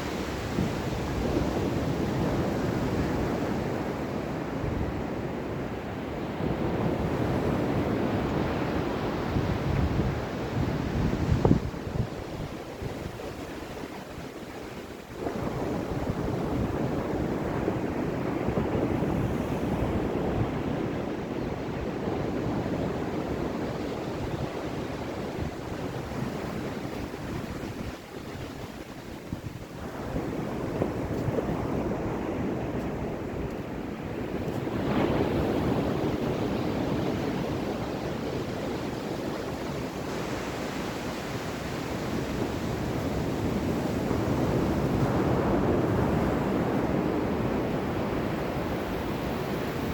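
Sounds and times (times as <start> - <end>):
ocean waves washing on shore: 0.0 - 49.9.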